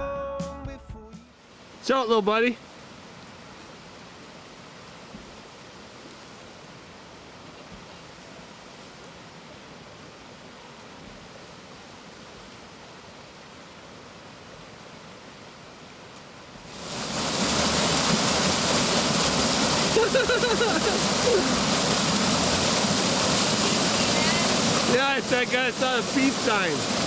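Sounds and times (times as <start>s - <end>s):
water rushing over rocks: 1.4s - 27.0s.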